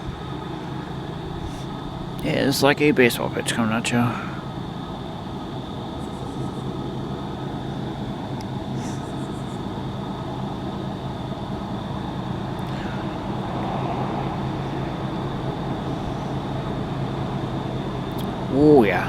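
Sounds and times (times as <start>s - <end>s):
thin steady high tone: 0.0s - 19.0s
train engine drone and rumble: 0.0s - 19.0s.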